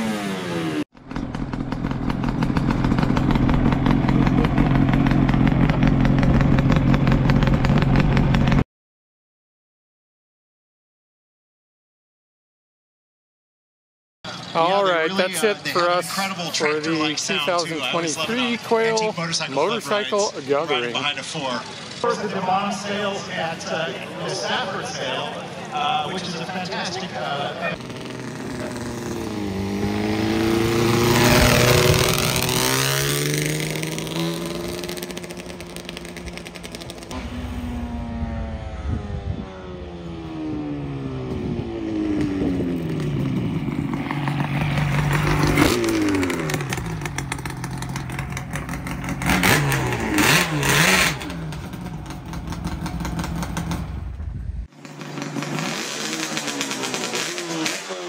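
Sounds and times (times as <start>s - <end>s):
motorcycles riding past: 0.0s - 8.6s, 14.3s - 58.0s.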